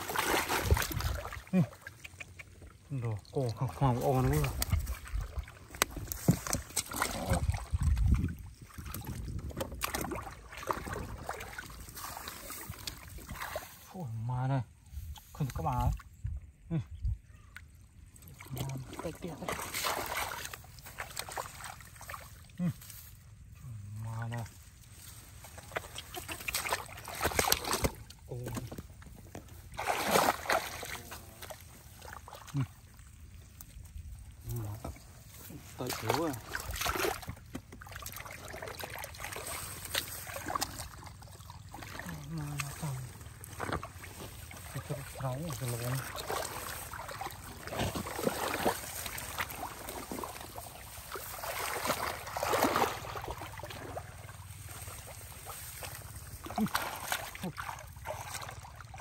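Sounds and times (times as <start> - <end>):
splashing through muddy water: 0.0 - 59.0.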